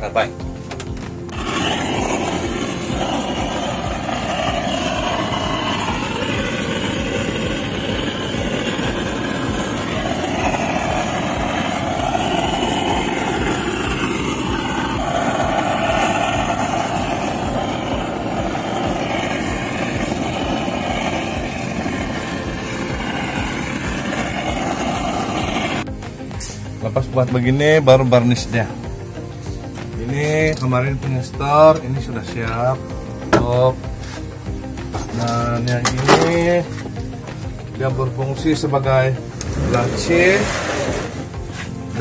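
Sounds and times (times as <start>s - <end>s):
blowtorch hissing: 0.0s - 42.0s.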